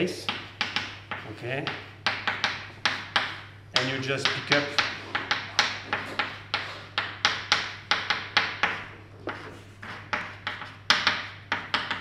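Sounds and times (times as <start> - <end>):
chalk tapping on blackboard: 0.0 - 12.0
low electrical hum: 0.0 - 12.0.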